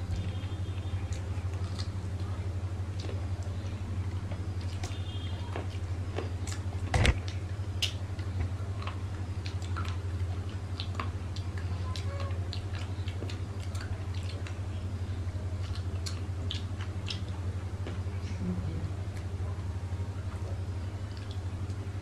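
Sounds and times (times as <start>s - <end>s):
steady low hum: 0.0s - 22.0s
wet chewing smacks: 0.1s - 18.4s, 20.3s - 21.9s.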